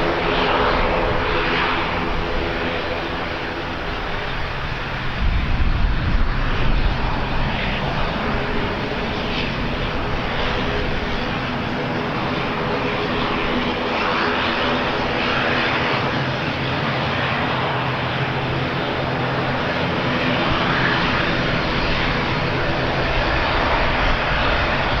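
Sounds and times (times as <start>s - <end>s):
aircraft engines running: 0.0s - 25.0s
wind buffeting microphone: 0.0s - 25.0s.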